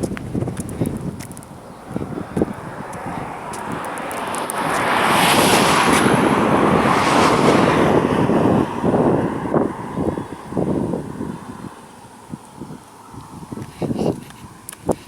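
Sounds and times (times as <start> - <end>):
vehicle passing close by: 1.3 - 13.6.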